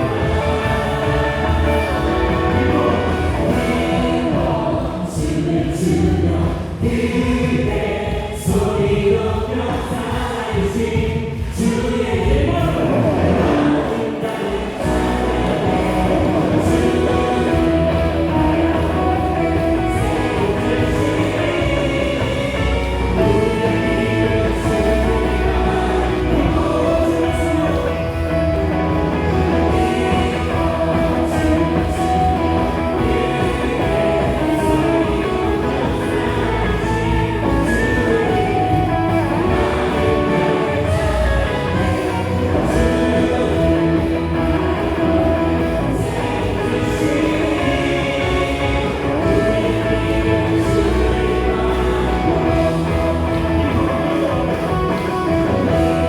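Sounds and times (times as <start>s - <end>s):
people singing: 0.0s - 56.0s
worship band playing: 0.0s - 56.0s.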